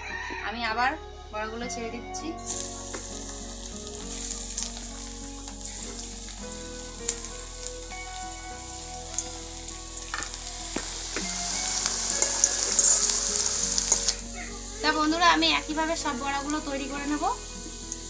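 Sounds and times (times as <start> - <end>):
fritters sizzling in hot oil: 2.4 - 18.0.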